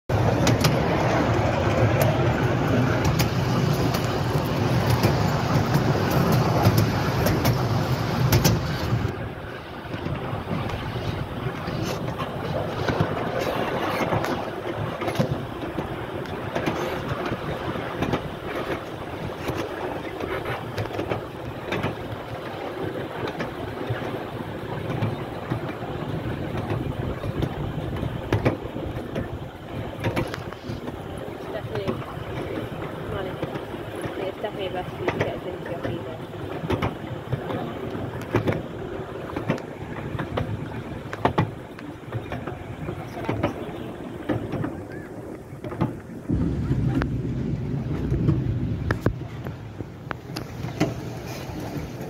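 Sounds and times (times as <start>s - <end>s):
wheels clicking on rails: 0.1s - 47.2s
miniature train rumbling on track: 0.1s - 52.0s
wind on microphone: 0.1s - 52.0s.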